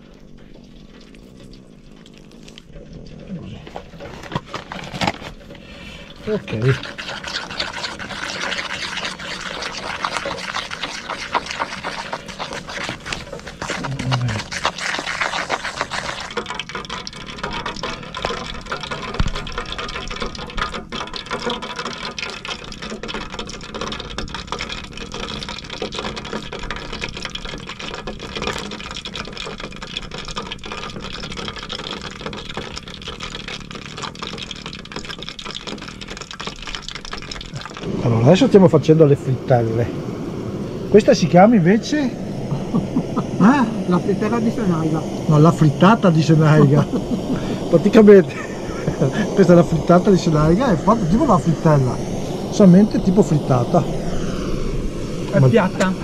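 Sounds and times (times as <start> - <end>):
food frying in hot oil: 0.0 - 56.0.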